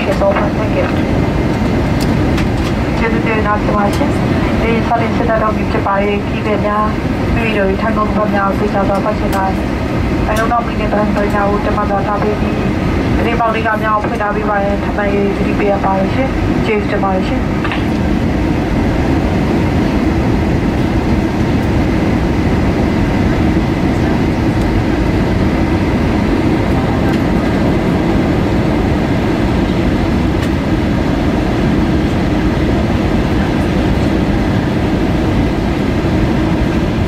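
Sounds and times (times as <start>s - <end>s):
airplane cabin airflow and engine noise: 0.0s - 37.0s
faint steady whine: 0.0s - 37.0s.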